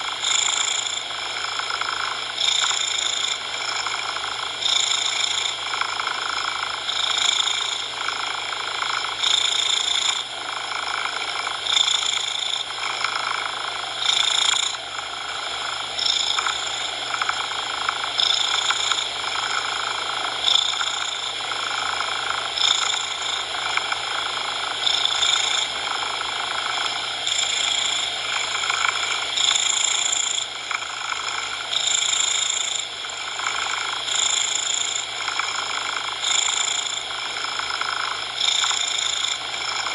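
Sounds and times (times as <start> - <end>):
cat purring: 0.0 - 39.9
steady hiss of noise: 0.0 - 39.9.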